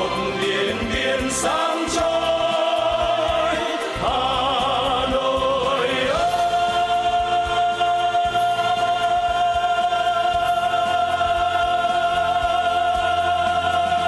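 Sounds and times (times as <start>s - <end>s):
instrumental accompaniment: 0.0s - 14.0s
male vocal trio singing: 0.0s - 14.0s.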